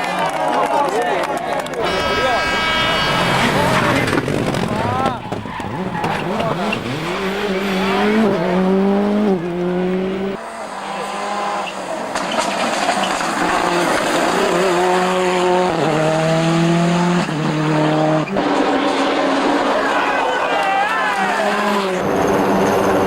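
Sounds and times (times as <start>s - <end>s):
car engine revving hard: 1.6s - 23.0s.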